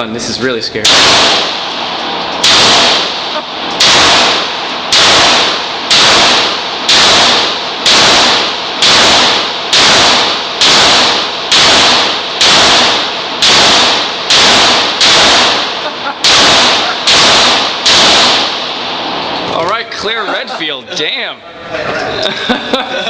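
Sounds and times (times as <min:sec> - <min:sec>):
gunshots echoing: 0:00.8 - 0:20.4.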